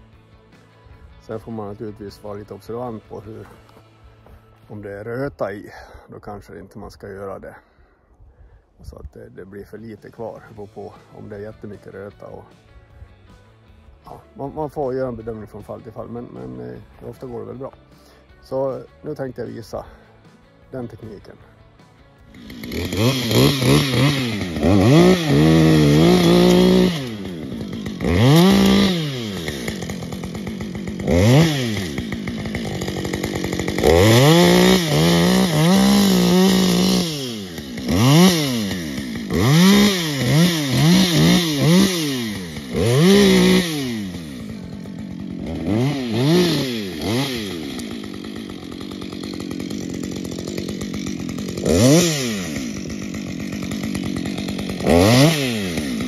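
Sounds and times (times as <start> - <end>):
chainsaw revving and idling: 10.0 - 56.0.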